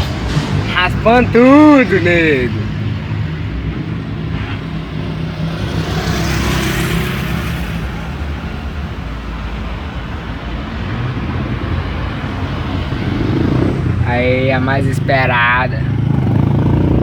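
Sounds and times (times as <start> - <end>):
car engine running: 0.0 - 17.0
car passing close: 0.0 - 17.0.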